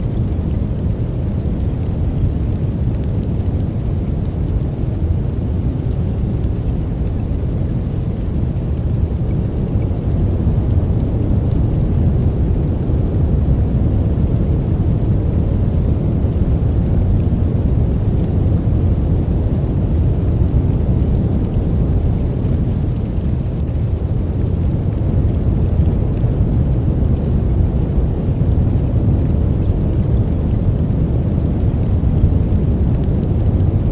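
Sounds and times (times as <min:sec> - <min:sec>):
deep steady white noise: 0:00.0 - 0:33.9.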